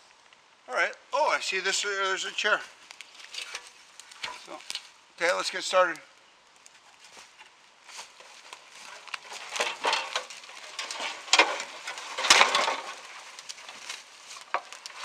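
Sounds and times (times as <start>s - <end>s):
branches rustling and crunching: 1.6s - 15.0s.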